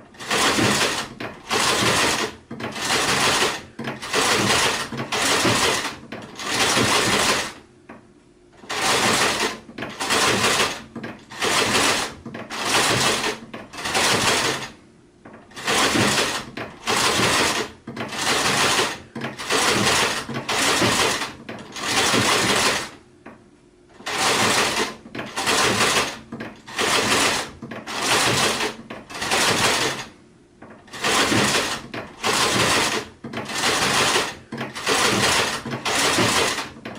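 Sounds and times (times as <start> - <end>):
sewing machine stitching: 0.0 - 7.6, 8.6 - 23.0, 23.9 - 30.2, 30.8 - 36.9.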